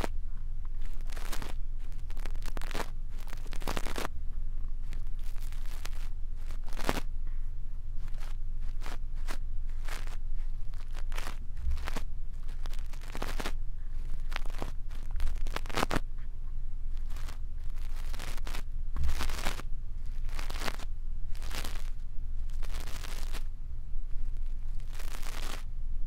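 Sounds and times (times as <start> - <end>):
steady low hum: 0.0 - 26.0
brush scratching microphone: 0.8 - 4.1, 4.8 - 7.1, 8.0 - 16.1, 16.9 - 23.5, 24.1 - 25.7.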